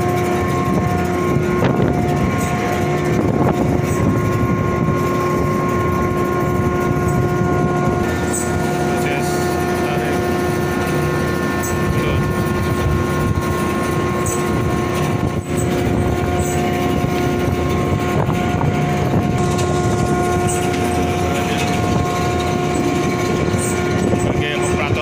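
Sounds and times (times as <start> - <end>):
crane machinery drone: 0.0 - 25.0
steady machinery whine: 0.0 - 25.0.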